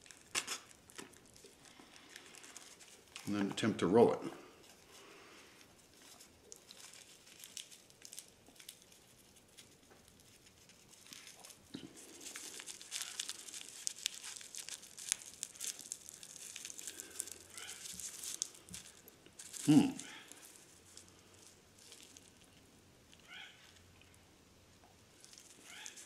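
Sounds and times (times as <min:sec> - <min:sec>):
rolling paper and tobacco rustling: 0:00.0 - 0:23.9, 0:25.1 - 0:26.0.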